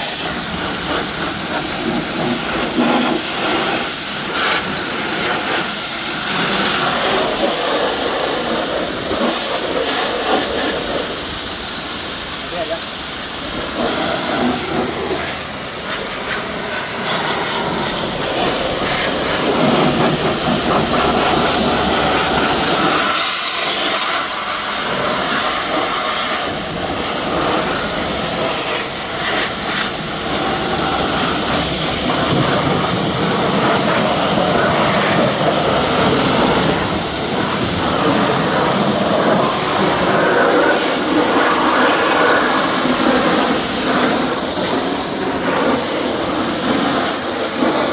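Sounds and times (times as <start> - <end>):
pressure washer spraying: 0.0 - 47.9.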